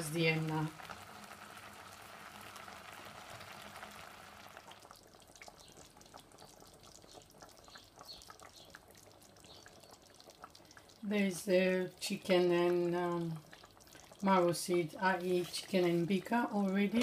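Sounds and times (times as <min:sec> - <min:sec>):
stew simmering with small pops: 0:00.0 - 0:17.0
water boiling in saucepan: 0:00.0 - 0:17.0.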